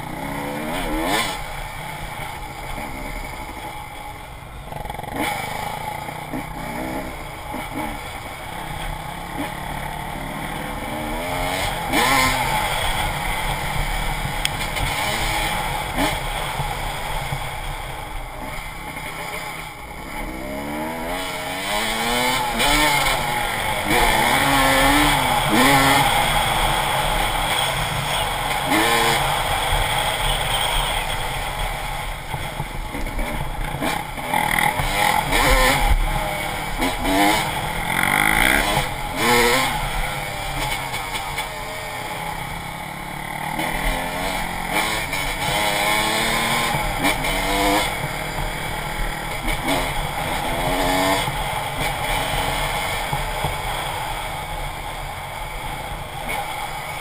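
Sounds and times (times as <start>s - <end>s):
dirt bike engine revving: 0.0s - 4.0s, 4.7s - 57.0s
wind and ride noise: 0.0s - 57.0s.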